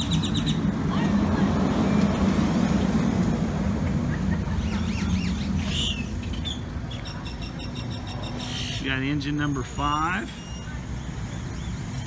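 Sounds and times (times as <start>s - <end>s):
fire engine diesel engine droning: 0.0s - 12.0s.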